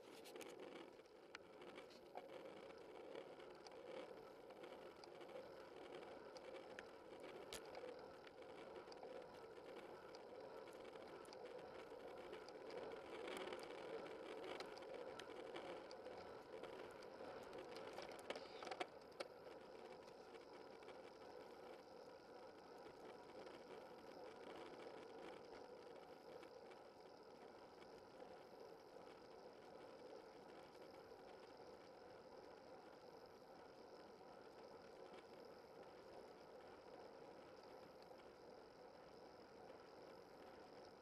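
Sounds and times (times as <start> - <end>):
faint clicks and knocks: 0.0 - 41.0.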